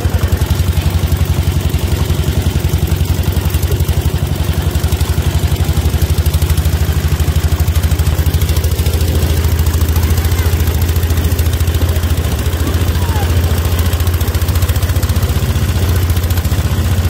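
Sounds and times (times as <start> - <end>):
boat motor chugging: 0.0 - 17.0.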